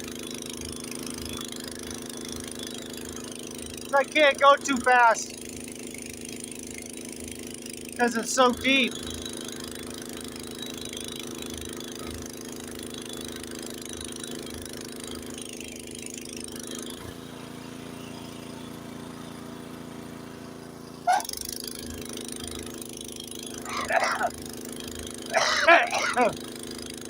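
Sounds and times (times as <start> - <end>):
snowblower engine running: 0.0 - 27.0.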